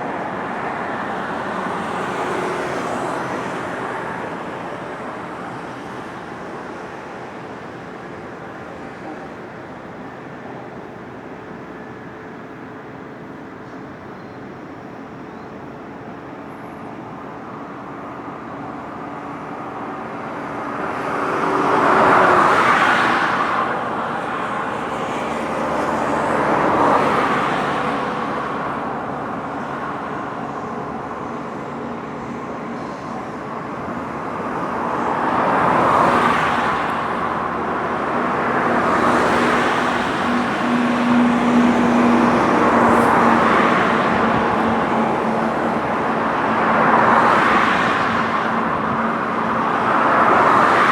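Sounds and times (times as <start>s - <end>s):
cars passing by: 0.0s - 14.0s, 15.6s - 50.9s.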